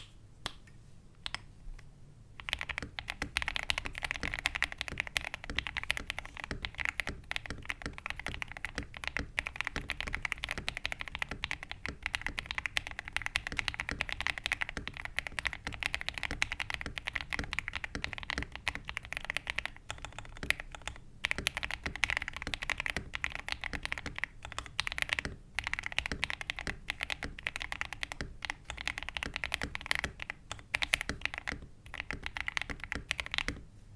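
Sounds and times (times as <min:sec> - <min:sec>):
mechanical keyboard typing: 0:02.4 - 0:33.6.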